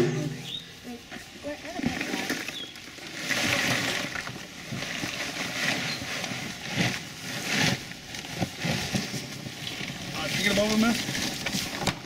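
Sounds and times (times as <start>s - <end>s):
crawfish shells pouring and rattling: 1.8s - 12.0s.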